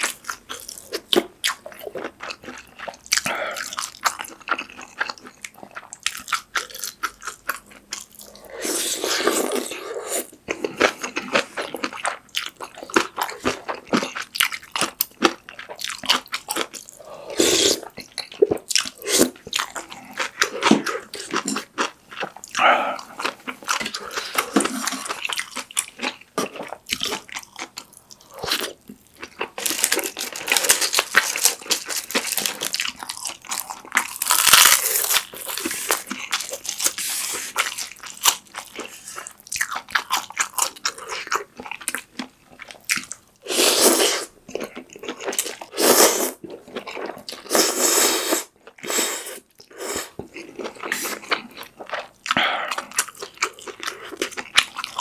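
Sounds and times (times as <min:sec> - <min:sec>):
wet chewing with crunchy bites: 0:00.0 - 0:47.6, 0:48.4 - 0:55.0.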